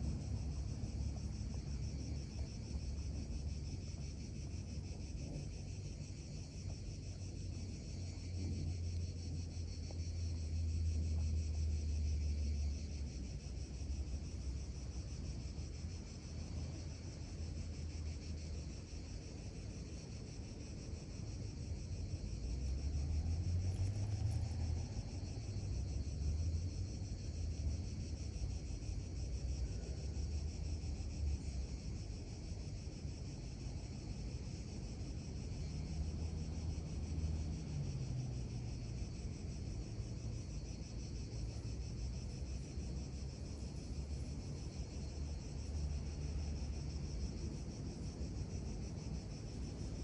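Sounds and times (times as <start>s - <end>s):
steady high-pitched hiss: 0.0s - 50.0s.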